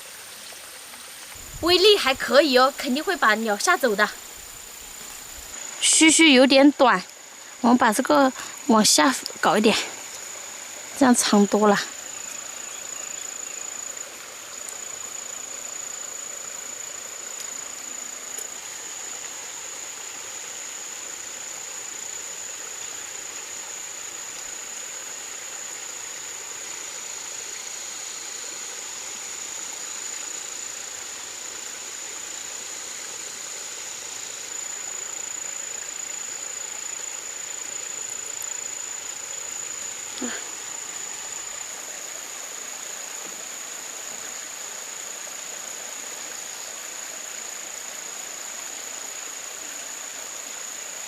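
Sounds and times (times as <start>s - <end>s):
even hiss: 0.0s - 51.0s
high thin insect trill: 0.0s - 51.0s.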